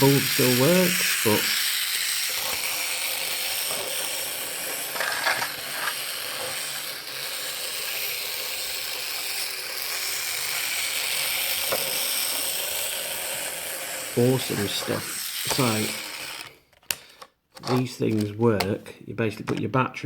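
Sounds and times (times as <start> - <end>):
toy motor and gears whirring: 0.0 - 16.7
toy clicks: 0.0 - 18.3.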